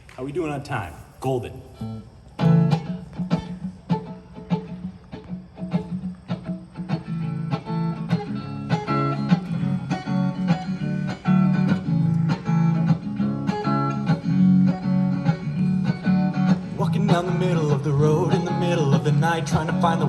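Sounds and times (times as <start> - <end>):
acoustic guitar strumming: 1.8 - 20.0.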